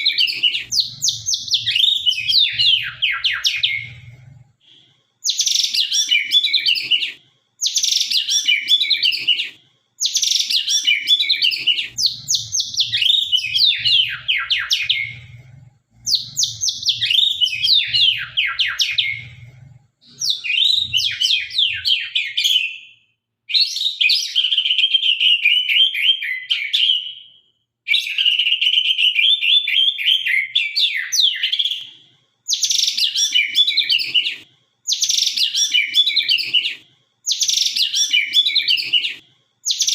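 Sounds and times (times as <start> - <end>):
bird singing: 0.0 - 31.9, 32.5 - 39.9.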